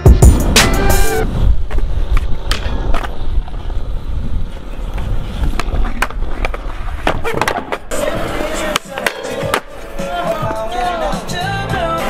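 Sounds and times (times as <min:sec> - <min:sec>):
skateboard wheels rolling on concrete: 0:00.0 - 0:12.0
skateboard clicks and knocks: 0:01.6 - 0:11.3.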